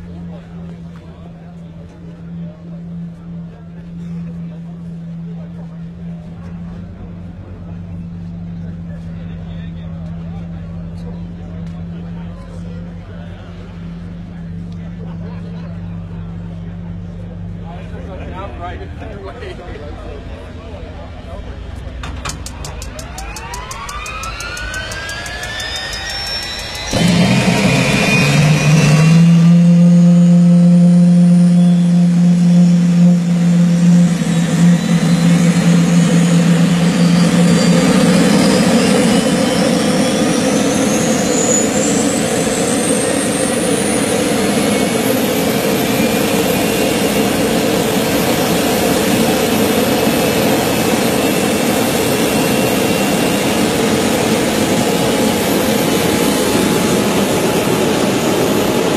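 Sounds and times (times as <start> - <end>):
turbine engine starting and whining: 0.0 - 58.9.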